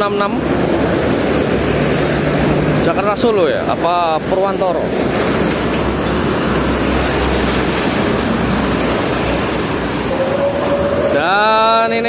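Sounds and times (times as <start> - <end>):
highway traffic roar: 0.0 - 12.0.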